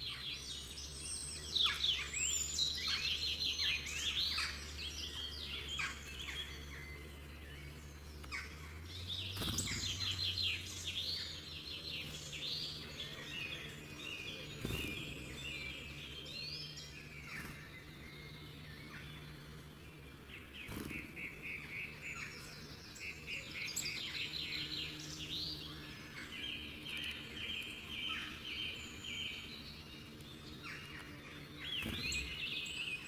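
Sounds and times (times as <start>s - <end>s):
songbirds chirping and trilling: 0.0s - 33.0s.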